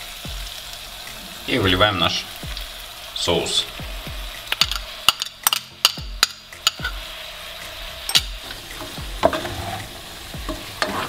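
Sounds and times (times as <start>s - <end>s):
sauce pouring: 0.0s - 11.0s
vegetables sizzling in a frying pan: 0.0s - 11.0s.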